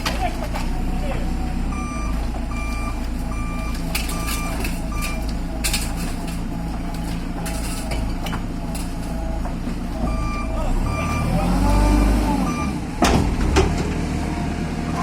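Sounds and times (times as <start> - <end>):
diesel engine rumble: 0.0 - 15.0
reversing alarm beeping: 0.3 - 12.9.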